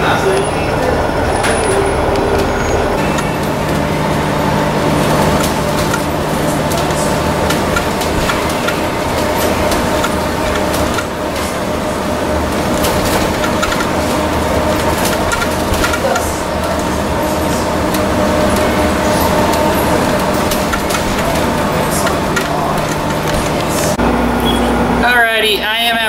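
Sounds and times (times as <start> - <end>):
bus engine and road noise: 0.0 - 26.0
cabin rattles and clicks: 1.4 - 24.0.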